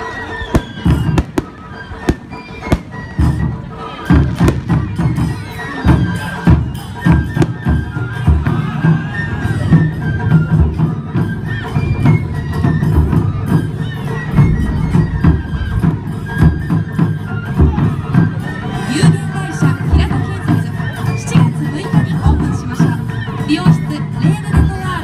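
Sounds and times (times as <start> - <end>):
high flute melody: 0.0 - 25.0
taiko drums playing: 0.5 - 25.0.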